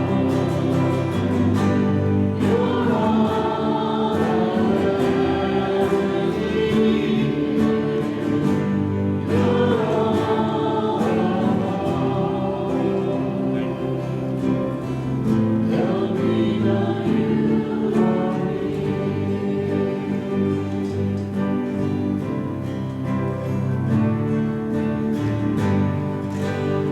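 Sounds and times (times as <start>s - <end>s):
worship band playing: 0.0s - 22.6s
voices singing: 0.0s - 22.7s
strummed guitar rhythm: 0.0s - 26.9s.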